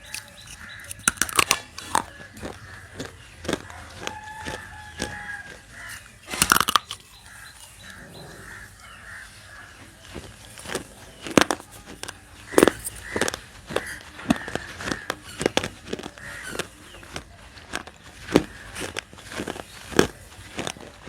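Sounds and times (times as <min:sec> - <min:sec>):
clay being bitten and chewed: 0:00.0 - 0:21.0.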